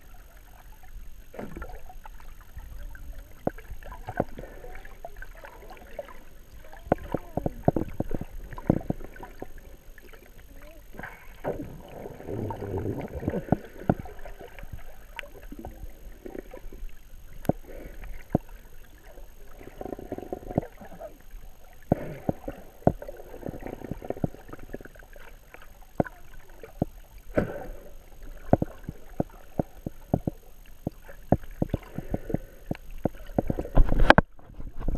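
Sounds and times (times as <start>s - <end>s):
muffled underwater water swirling: 0.0s - 34.9s.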